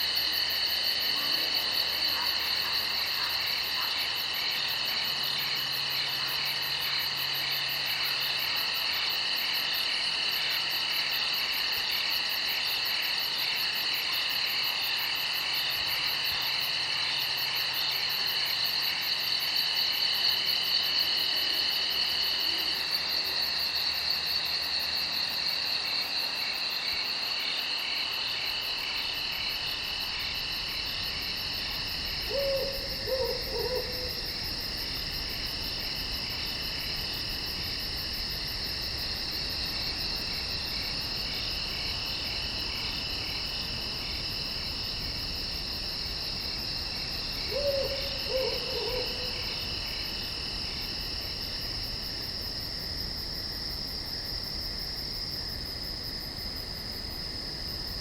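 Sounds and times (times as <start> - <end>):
crickets and insects trilling: 0.0 - 58.0.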